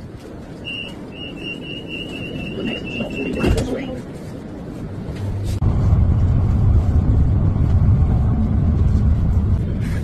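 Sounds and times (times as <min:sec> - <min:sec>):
tram running rumble: 0:00.0 - 0:10.0.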